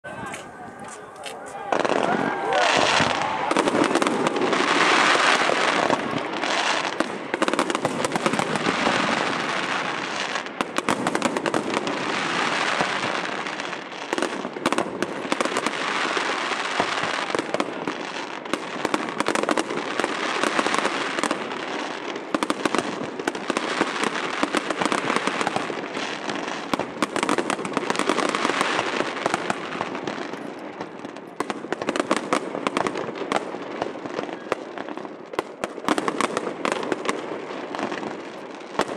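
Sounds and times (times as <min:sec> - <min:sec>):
fireworks crackling: 0:00.0 - 0:38.9
fireworks bursting with bangs: 0:00.1 - 0:38.9.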